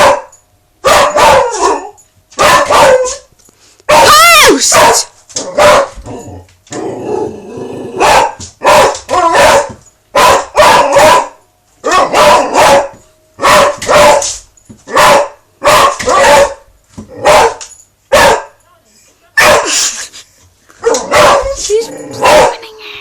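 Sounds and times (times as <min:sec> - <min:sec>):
dog barking loudly: 0:00.0 - 0:03.3, 0:03.9 - 0:06.0, 0:08.0 - 0:18.6, 0:19.4 - 0:19.8, 0:20.8 - 0:22.7.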